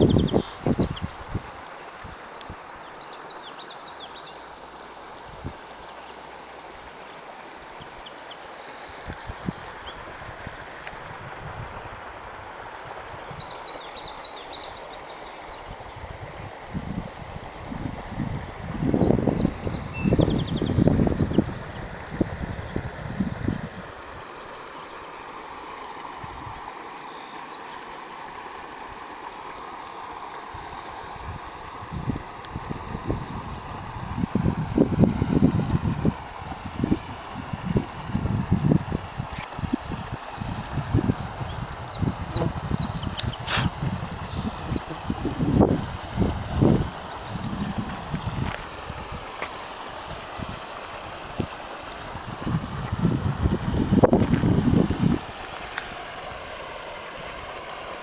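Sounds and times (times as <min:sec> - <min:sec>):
river water running over stones: 0:00.0 - 0:58.0.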